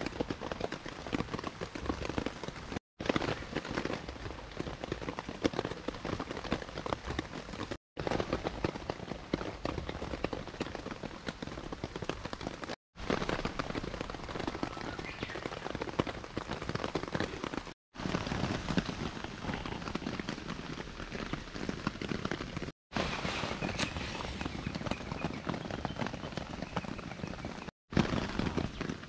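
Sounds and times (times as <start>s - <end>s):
rain ticking on a tarp: 0.0s - 29.0s.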